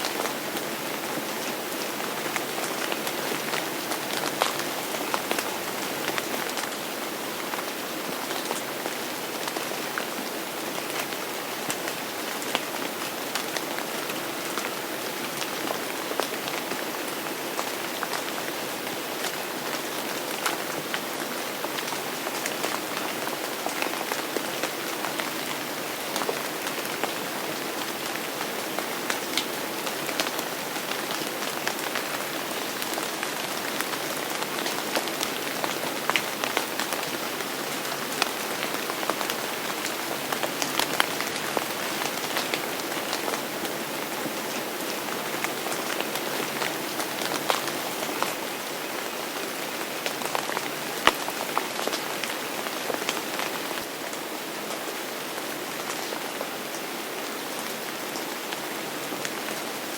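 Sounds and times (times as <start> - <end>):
rain on a hard surface: 0.0 - 59.9.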